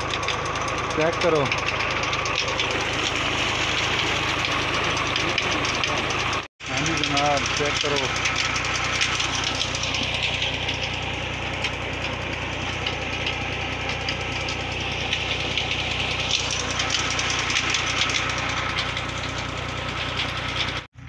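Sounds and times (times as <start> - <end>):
diesel tractor engine knocking: 0.0 - 21.0.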